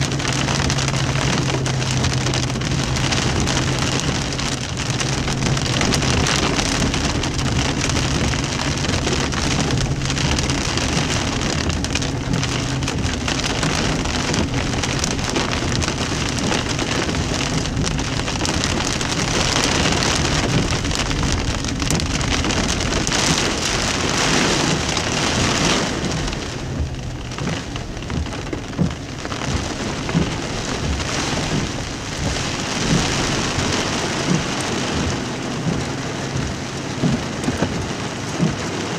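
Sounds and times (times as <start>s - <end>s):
heavy rain on a car roof: 0.0s - 38.9s
heavy raindrops hitting: 0.0s - 38.9s.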